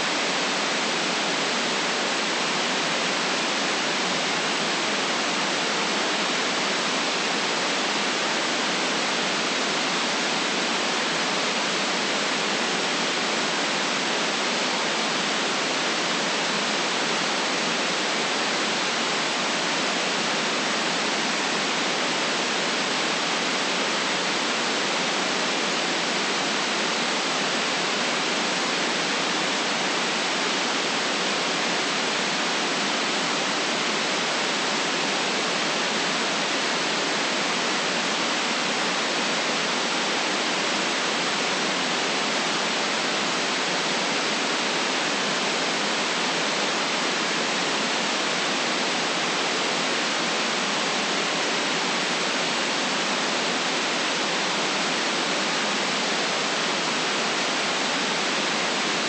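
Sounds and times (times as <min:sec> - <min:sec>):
steady white noise: 0:00.0 - 0:59.0.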